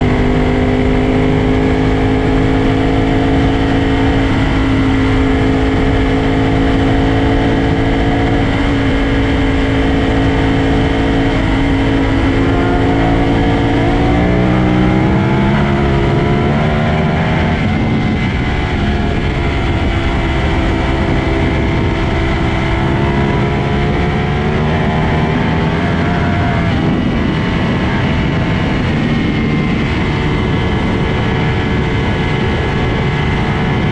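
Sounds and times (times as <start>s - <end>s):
motorcycle engine at high revs: 0.0s - 33.9s
wind and road noise: 0.0s - 33.9s.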